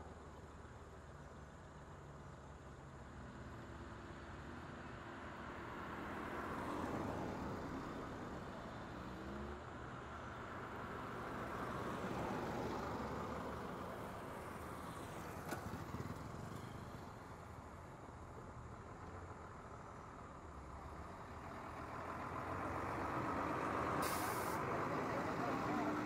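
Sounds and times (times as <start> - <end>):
cars passing: 4.3 - 26.0.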